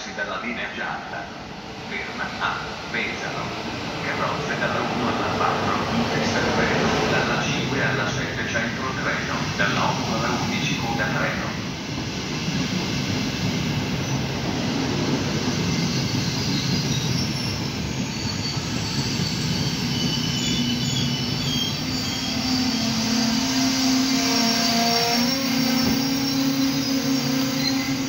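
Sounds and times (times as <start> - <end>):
train wheels rumbling on rail: 0.1 - 28.0.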